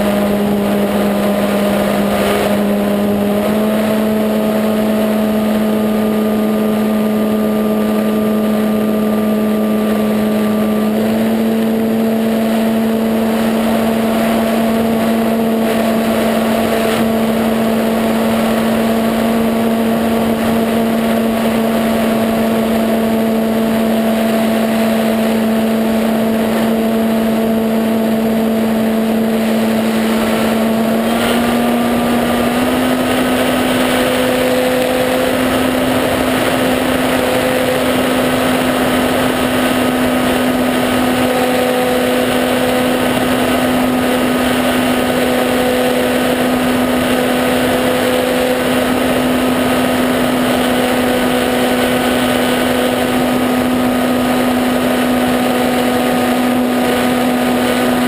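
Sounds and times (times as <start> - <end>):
model plane electric motor humming: 0.0 - 58.0
rushing airflow: 0.0 - 58.0.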